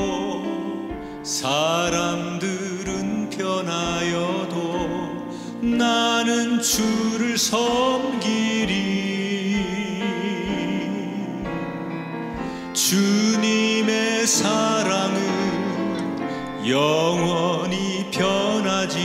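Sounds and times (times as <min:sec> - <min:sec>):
person singing worship music: 0:00.0 - 0:19.0
sustained instrumental accompaniment: 0:00.0 - 0:19.0.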